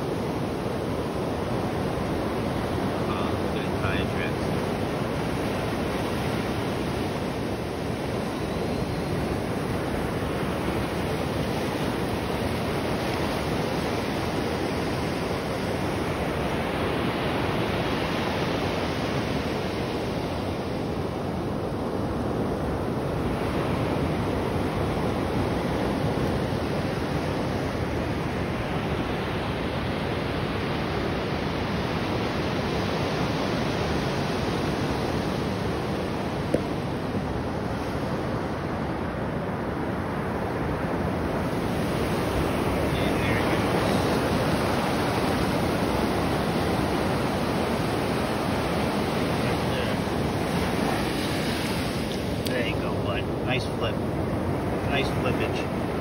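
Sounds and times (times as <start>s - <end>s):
ocean surf washing up beach: 0.0s - 56.0s.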